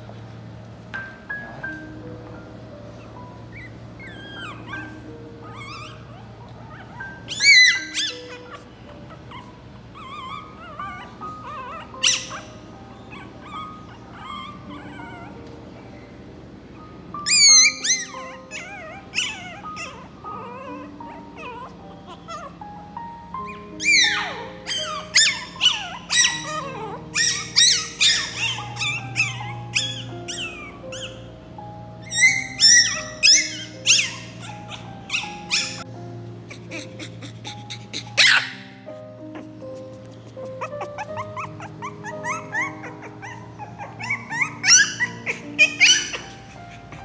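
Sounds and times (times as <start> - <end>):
background music with held notes: 0.0 - 47.0
puppy yipping: 3.0 - 16.1, 17.2 - 31.3, 32.0 - 35.9, 36.5 - 47.0.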